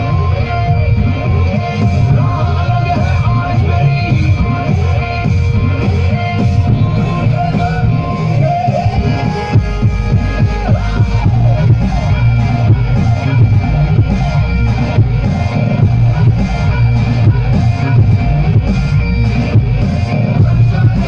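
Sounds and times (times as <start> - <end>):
loud bass-heavy music: 0.0 - 21.0.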